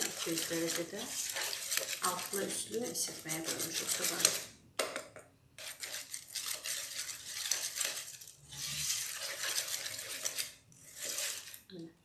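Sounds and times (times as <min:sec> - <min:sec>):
whisk beating batter in bowl: 0:00.0 - 0:04.5, 0:05.6 - 0:11.6.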